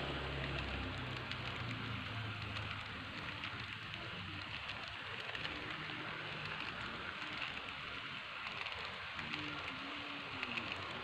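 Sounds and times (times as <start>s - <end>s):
faint motor hum: 0.0s - 11.0s
model train wheels rattling: 0.4s - 11.0s.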